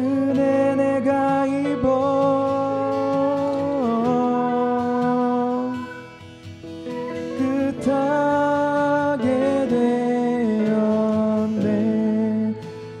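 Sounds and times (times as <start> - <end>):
acoustic guitar: 0.0 - 13.0
person singing worship song: 0.0 - 13.0.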